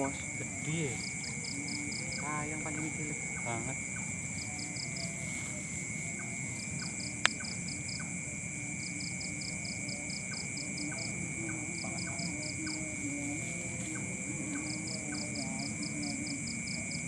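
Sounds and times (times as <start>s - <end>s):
crickets chirping: 0.0s - 17.0s
high-pitched insect drones: 0.0s - 17.0s.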